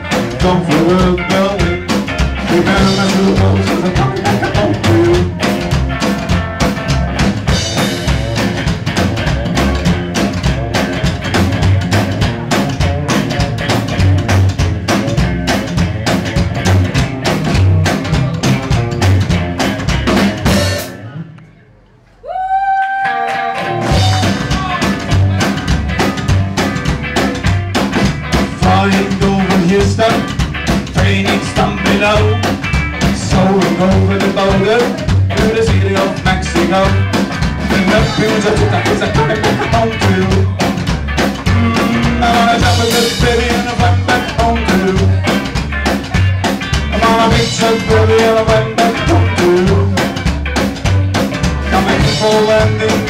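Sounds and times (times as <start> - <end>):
drum kit beat: 0.0 - 21.2, 23.0 - 53.0
electric guitar melody: 0.0 - 21.2, 23.0 - 53.0
upright bass: 0.0 - 22.0, 23.1 - 53.0.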